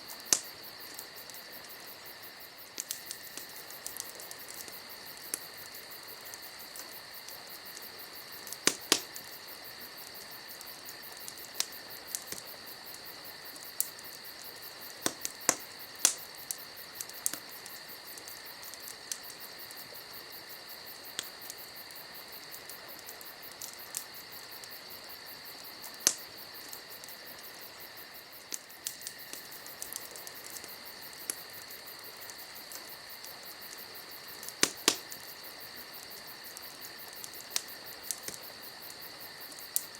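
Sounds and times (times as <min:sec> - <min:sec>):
campfire crackling and popping: 0:00.0 - 0:39.9
crickets chirring: 0:00.0 - 0:39.9.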